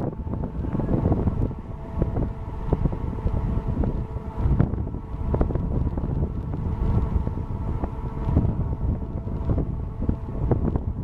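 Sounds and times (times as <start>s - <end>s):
gusty wind buffeting microphone: 0.0s - 11.0s
ship machinery humming: 0.0s - 11.0s.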